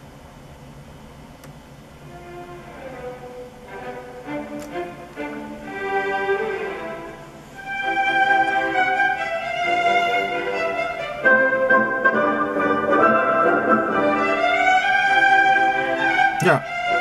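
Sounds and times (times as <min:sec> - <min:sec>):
classical string music from speaker: 0:02.0 - 0:17.0.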